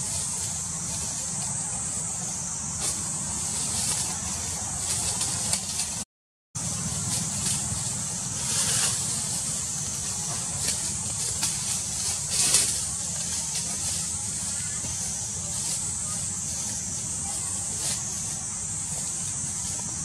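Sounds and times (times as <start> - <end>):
high hiss: 0.0 - 6.0, 6.6 - 20.0.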